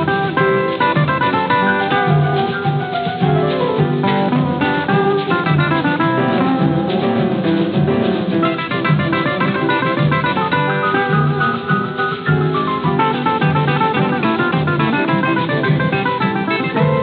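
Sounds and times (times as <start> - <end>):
samba music with acoustic guitar: 0.0 - 17.0.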